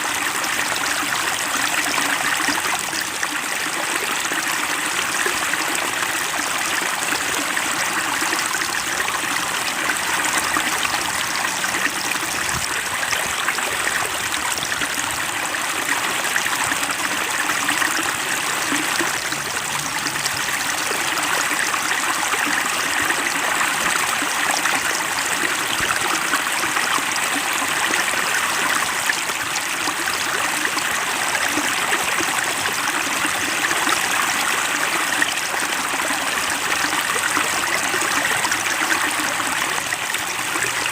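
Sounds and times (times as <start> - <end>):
stream of flowing water: 0.0 - 40.9.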